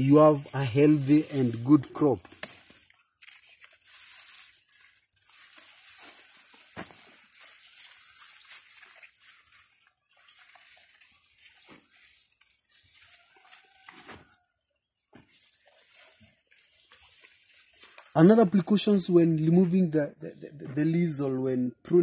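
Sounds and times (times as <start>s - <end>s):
plant leaves rustling: 0.0s - 19.8s.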